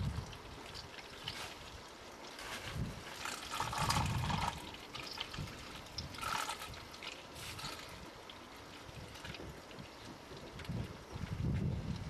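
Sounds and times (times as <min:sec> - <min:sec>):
oil trickling and gurgling: 0:00.0 - 0:12.0.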